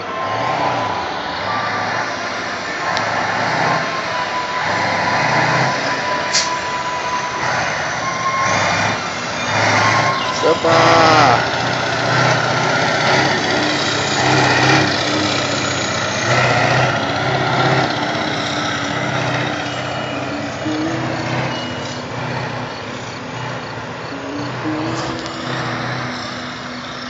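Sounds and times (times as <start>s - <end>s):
steady rush of noise: 0.0s - 27.0s
truck engine humming: 0.0s - 27.0s.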